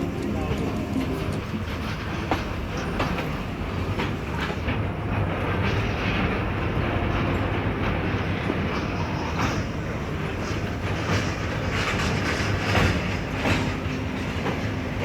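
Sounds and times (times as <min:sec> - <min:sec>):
clacks over rail joints: 0:00.0 - 0:15.0
train wheels rumbling: 0:00.0 - 0:15.0.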